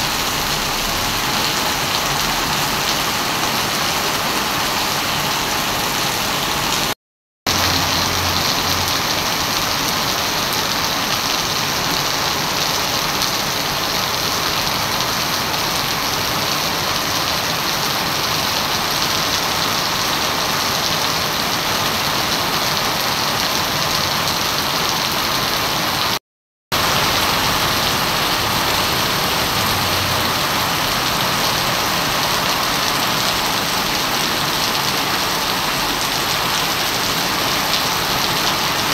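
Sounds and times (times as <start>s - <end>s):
heavy rain on wet pavement: 0.0s - 38.9s.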